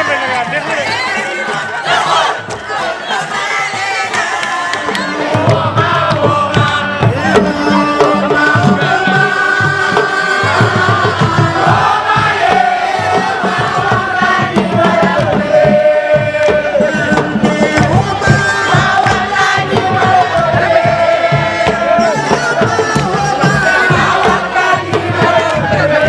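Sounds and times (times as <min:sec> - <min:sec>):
crowd chanting and singing: 0:00.0 - 0:26.0
drums beating: 0:00.0 - 0:26.0.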